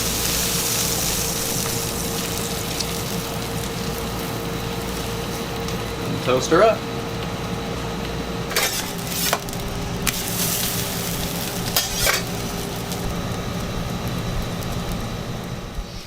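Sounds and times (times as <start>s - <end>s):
food sizzling on hot surface: 0.0s - 16.0s.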